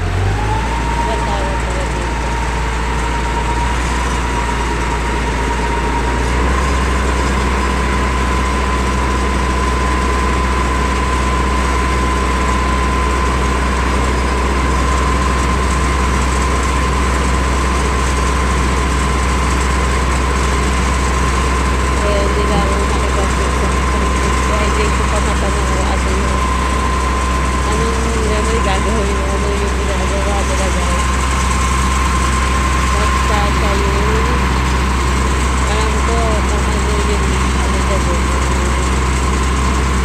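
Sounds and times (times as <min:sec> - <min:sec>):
steady whine: 0:00.0 - 0:40.0
truck engine and pump drone: 0:00.0 - 0:40.0.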